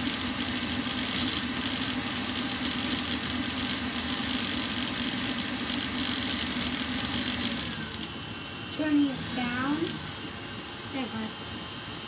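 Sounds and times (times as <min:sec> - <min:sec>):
electric mixer motor running: 0:00.0 - 0:12.0.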